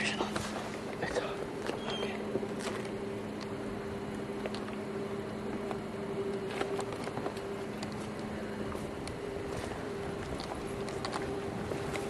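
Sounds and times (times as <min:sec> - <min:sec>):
higher hum tone: 0:00.0 - 0:12.0
low electrical hum: 0:00.0 - 0:12.0.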